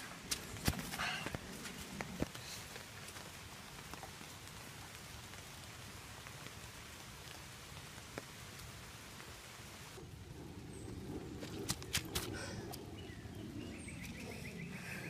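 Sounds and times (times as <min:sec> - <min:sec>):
light rain on leaves: 0:00.1 - 0:13.0.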